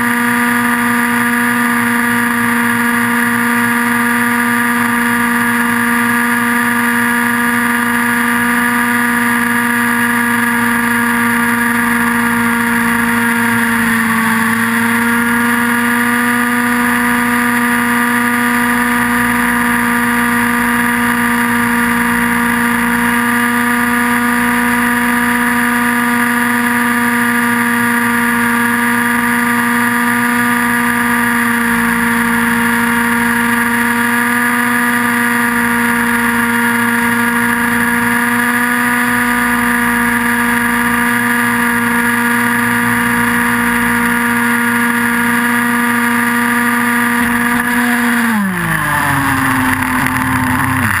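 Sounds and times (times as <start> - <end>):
model helicopter engine whine: 0.0 - 51.0
rotors winding down: 0.0 - 51.0.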